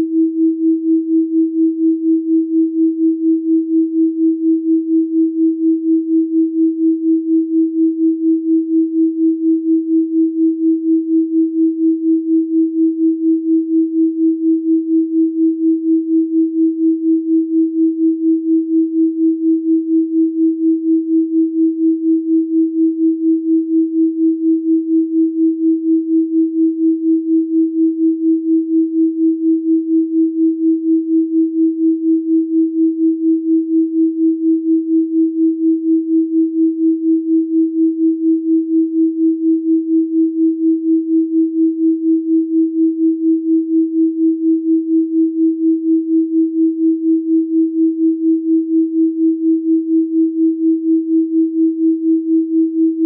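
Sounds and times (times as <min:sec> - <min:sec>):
pulsing sine tone: 0:00.0 - 0:53.0.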